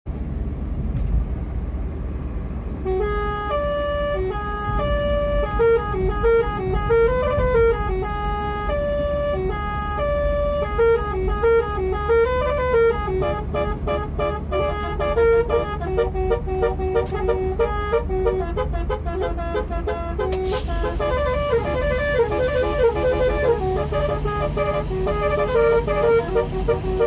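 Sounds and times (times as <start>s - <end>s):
bus horn playing tune: 2.8s - 27.0s.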